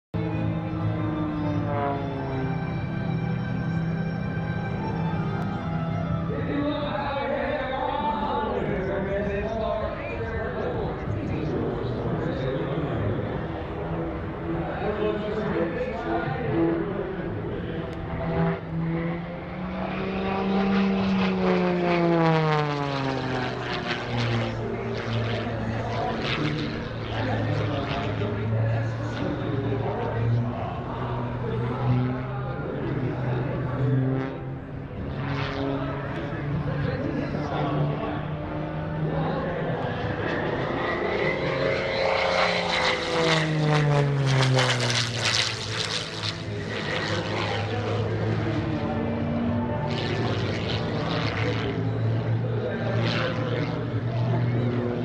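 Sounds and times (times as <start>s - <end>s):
propeller plane engine in flight: 0.1s - 55.0s.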